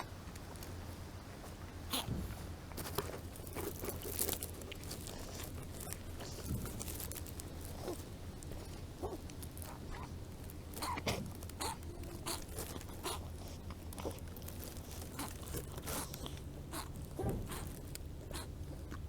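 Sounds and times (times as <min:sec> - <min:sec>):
kittens crunching dry kibble: 0:00.0 - 0:19.0.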